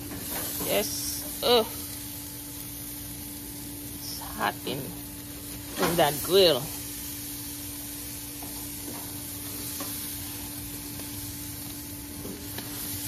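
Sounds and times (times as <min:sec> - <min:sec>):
fish sizzling on a grill: 0:00.0 - 0:13.0.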